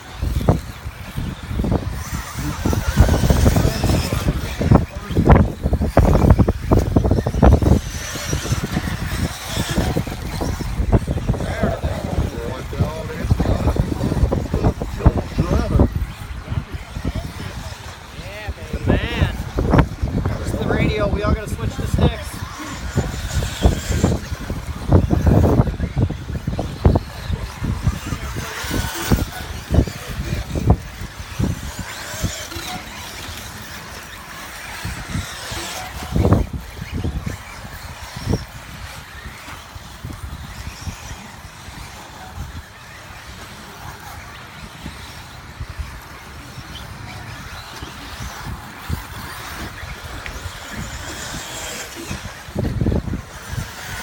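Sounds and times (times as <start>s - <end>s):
rc car motors whining: 0.0s - 54.0s.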